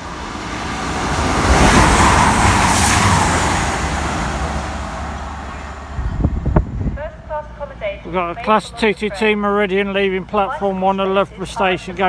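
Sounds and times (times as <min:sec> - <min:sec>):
train passing: 0:00.0 - 0:11.8.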